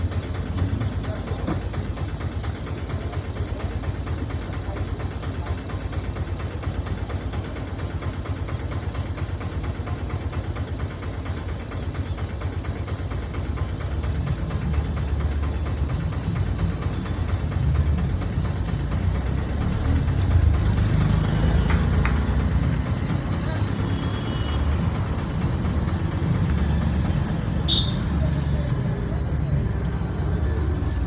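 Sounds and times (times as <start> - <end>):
engine idling: 0.0 - 31.0.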